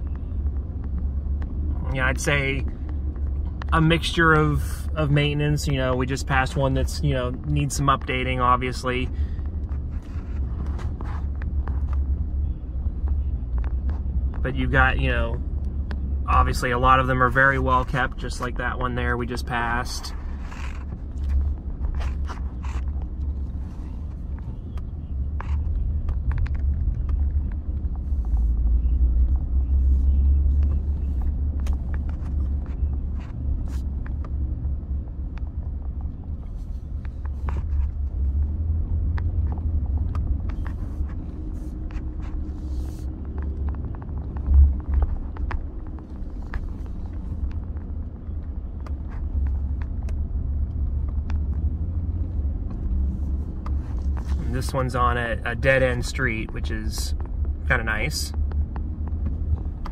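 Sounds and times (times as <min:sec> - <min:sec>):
car driving rumble from inside: 0:00.0 - 0:59.9.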